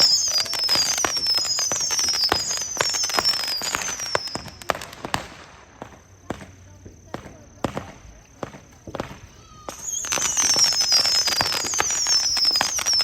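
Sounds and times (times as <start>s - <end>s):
falling firework whistles: 0.0s - 6.6s, 7.2s - 13.0s
crackling firework pops: 0.0s - 13.0s.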